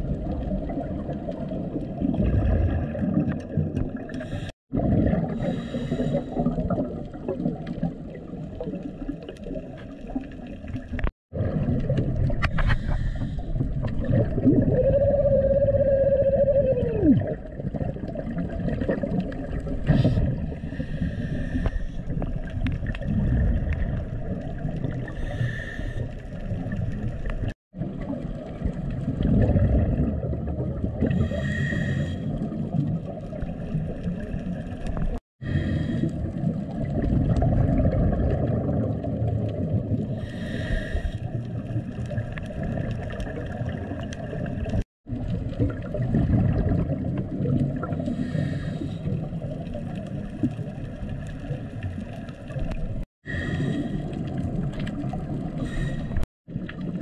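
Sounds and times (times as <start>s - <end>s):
regulator bubbles gurgling: 0.0s - 57.0s
underwater rumble: 0.0s - 57.0s.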